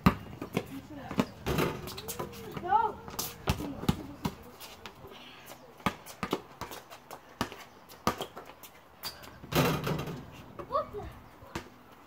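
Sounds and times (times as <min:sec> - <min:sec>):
basketball bouncing on concrete: 0:00.0 - 0:05.0, 0:05.8 - 0:10.8.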